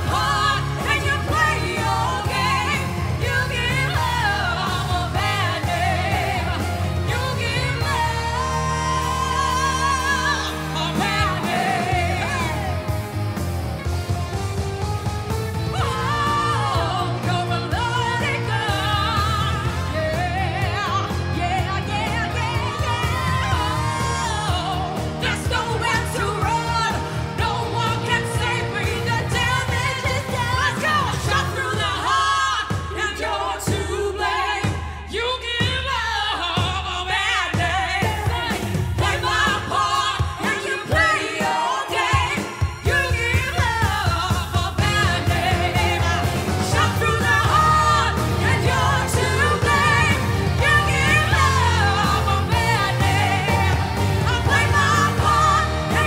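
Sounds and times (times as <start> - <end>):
women singing pop song: 0.0 - 13.4, 15.6 - 56.0
pop backing track: 0.0 - 56.0.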